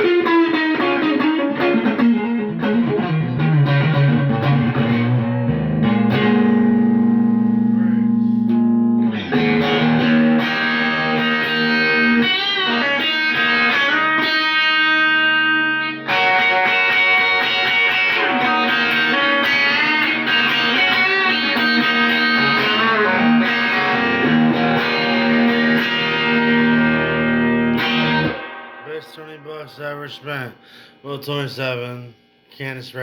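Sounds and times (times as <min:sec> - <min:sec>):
electric guitar chords and notes: 0:00.0 - 0:31.0.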